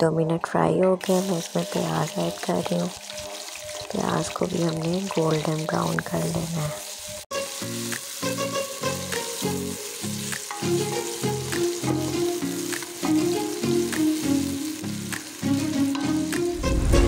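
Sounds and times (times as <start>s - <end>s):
background music of low notes: 0.0s - 17.0s
onions sizzling in hot oil: 1.0s - 16.9s.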